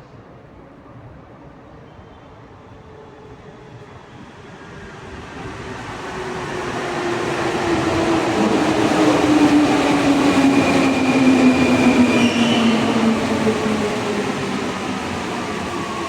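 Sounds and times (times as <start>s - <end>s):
train arriving: 0.0s - 16.0s.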